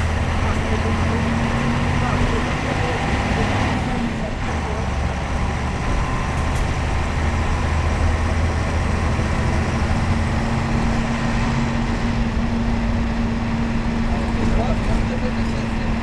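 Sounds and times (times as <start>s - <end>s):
diesel bus engine running: 0.0s - 16.0s.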